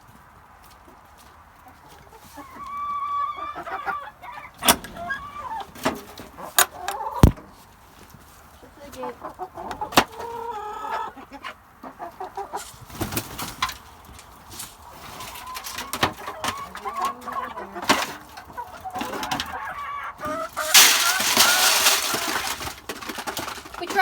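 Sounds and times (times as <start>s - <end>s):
chickens clucking: 0.3s - 24.0s.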